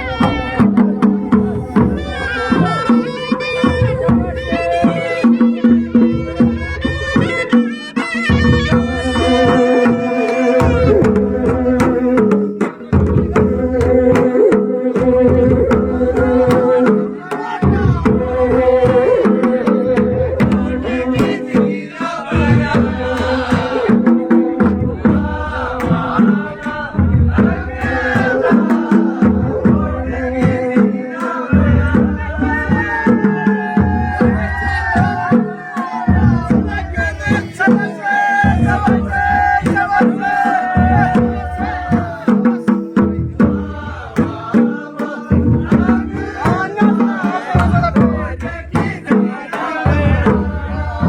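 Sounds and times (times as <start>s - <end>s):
repeating drumbeat: 0.0s - 51.0s.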